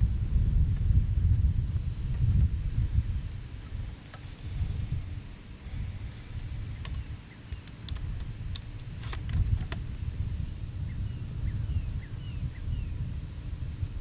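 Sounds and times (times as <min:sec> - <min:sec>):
wind buffeting microphone: 0:00.0 - 0:07.3, 0:07.9 - 0:14.0.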